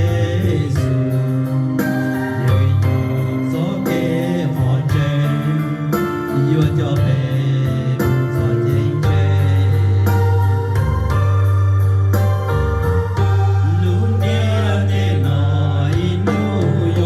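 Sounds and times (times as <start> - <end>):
person singing: 0.0 - 11.0, 13.4 - 17.0
sustained keyboard chords: 0.0 - 17.0.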